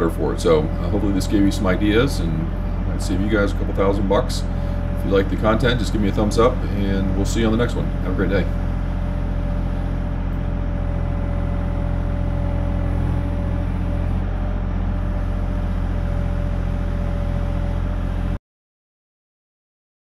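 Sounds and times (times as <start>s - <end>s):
excavator diesel engine running: 0.0s - 18.4s.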